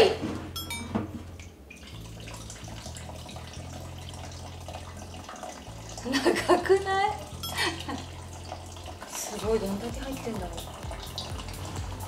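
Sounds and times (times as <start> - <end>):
gasoline trickling in thin stream: 1.7 - 12.0.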